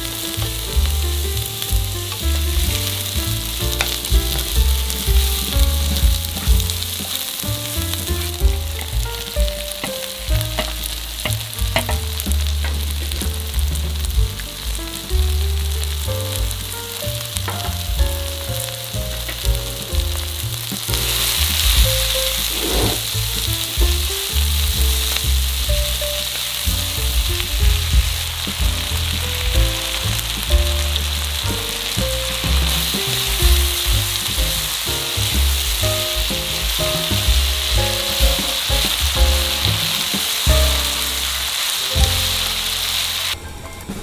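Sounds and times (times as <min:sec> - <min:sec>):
background music with bass line: 0:00.0 - 0:43.4
food sizzling in a wok: 0:00.0 - 0:43.4.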